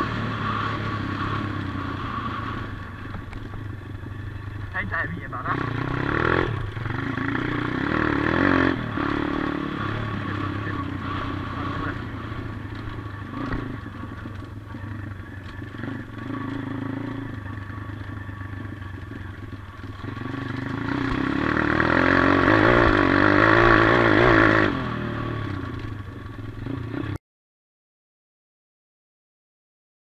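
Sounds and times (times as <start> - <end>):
motorbike engine revving: 0.0 - 27.2.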